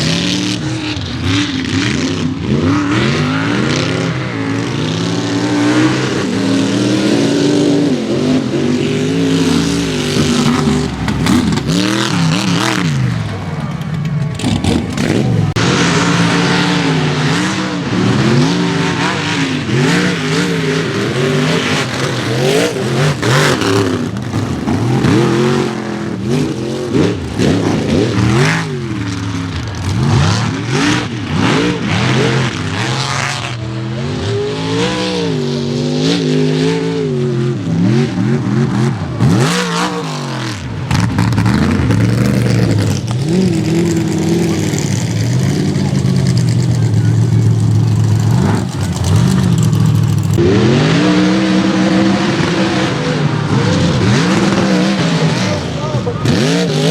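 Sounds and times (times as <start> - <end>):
truck engine revving hard: 0.0 - 56.9.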